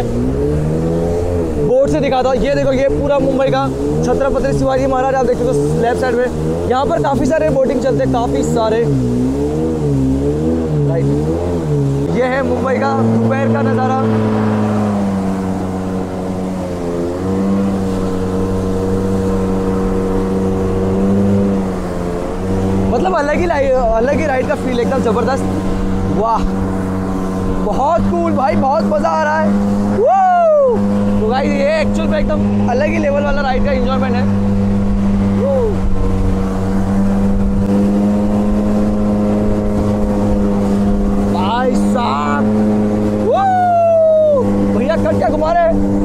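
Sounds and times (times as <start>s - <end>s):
motorboat engine running: 0.0s - 46.0s
rushing water: 0.0s - 46.0s
wind: 0.0s - 46.0s.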